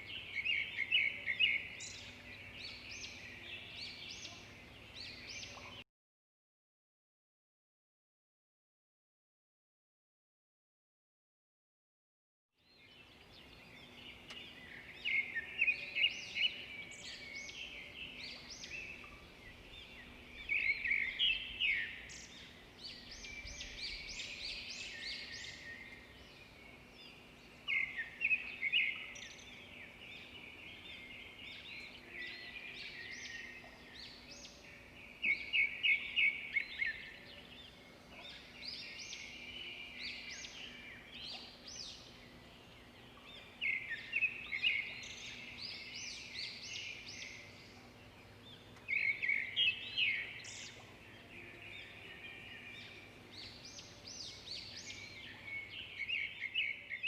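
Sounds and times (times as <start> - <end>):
birds singing: 0.0 - 5.8, 12.6 - 57.0.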